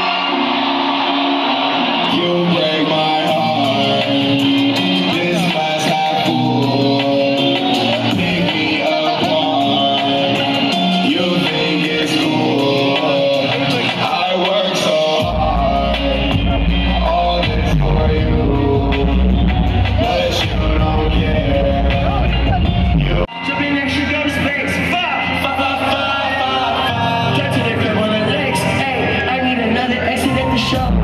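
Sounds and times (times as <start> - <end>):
live concert music: 0.0 - 31.0.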